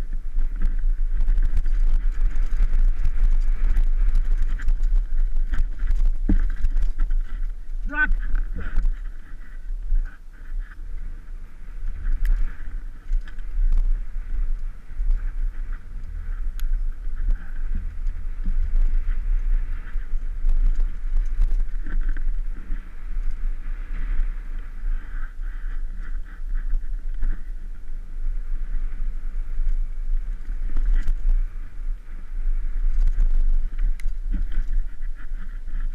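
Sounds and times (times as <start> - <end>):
mountain bike rattling over bumps: 0.0 - 35.9
wind rumble: 0.0 - 35.9.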